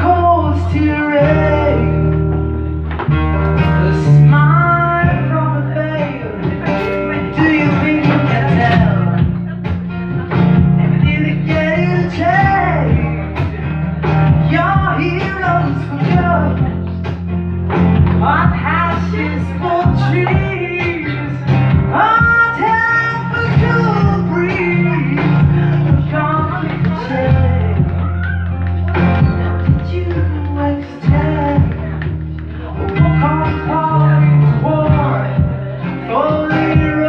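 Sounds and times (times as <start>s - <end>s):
person singing: 0.0s - 17.3s, 18.0s - 37.0s
acoustic guitar playing: 0.0s - 37.0s.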